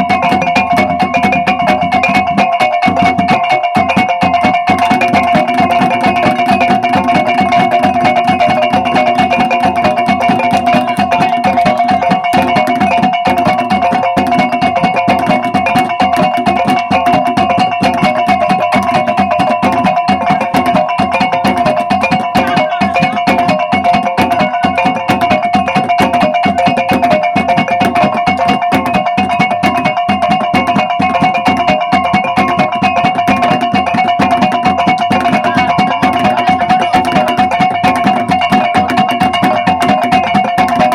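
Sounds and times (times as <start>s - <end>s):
drum strokes: 0.0s - 40.9s.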